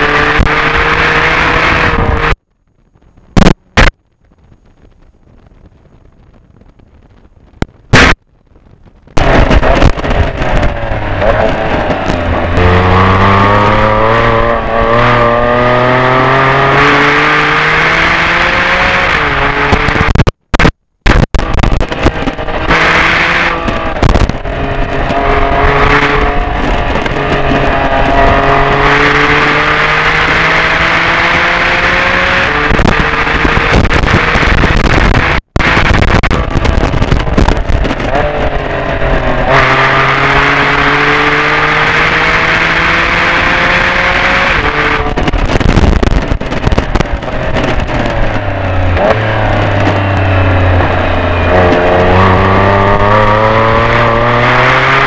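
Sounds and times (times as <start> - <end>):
car engine revving: 0.0 - 2.4, 9.2 - 20.7, 21.4 - 55.0
road and wind noise: 0.0 - 55.0.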